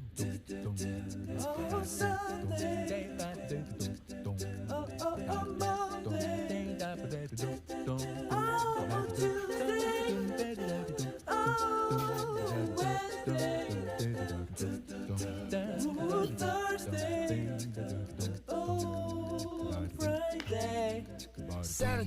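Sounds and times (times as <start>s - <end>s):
song with singing voices: 0.0s - 22.0s.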